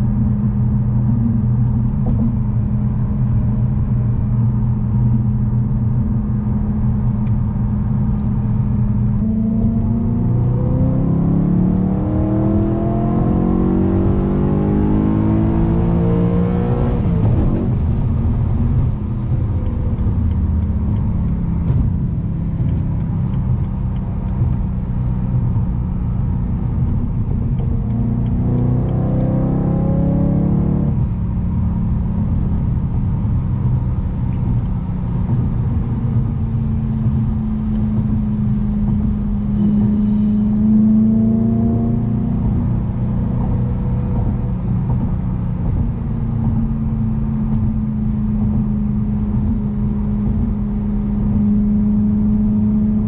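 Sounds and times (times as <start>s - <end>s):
car engine revving: 6.5s - 53.0s.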